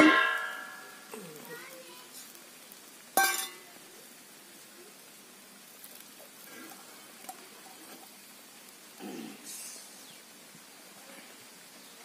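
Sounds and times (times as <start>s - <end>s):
fish sizzling in a pan: 0.0s - 11.8s.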